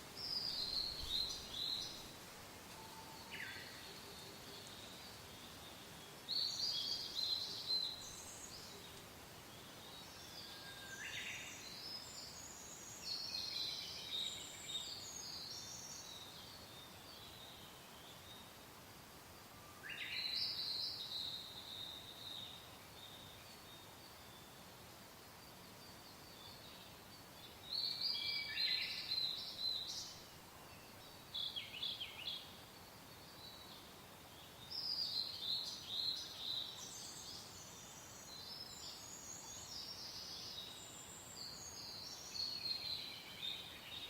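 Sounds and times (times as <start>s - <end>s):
soft wind hiss: 0.0s - 44.0s.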